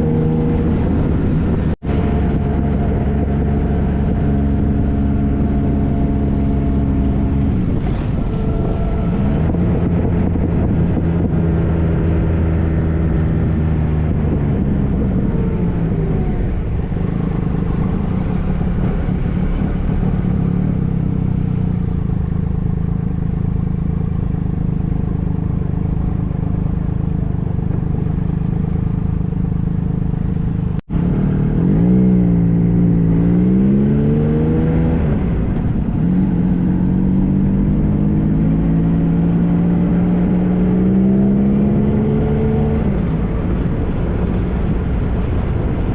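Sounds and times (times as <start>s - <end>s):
motorcycle engine running: 0.0s - 45.9s
wind noise: 0.0s - 45.9s.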